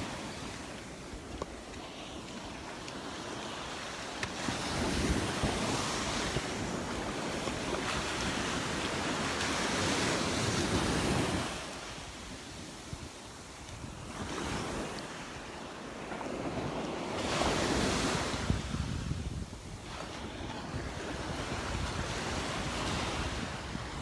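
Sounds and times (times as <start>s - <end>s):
ocean surf washing: 0.0s - 24.0s
wind on microphone: 0.0s - 24.0s.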